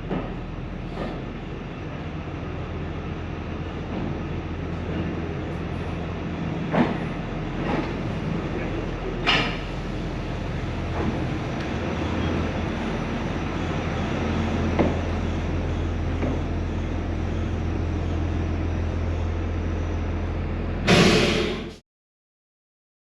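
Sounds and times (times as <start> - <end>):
train rumbling: 0.0 - 21.8.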